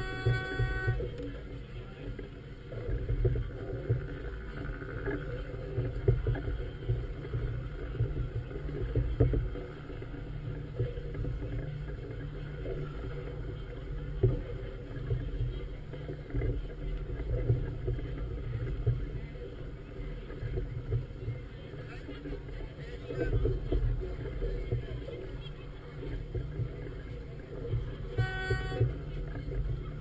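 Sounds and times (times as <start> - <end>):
low wind and water rumble: 0.0 - 30.0.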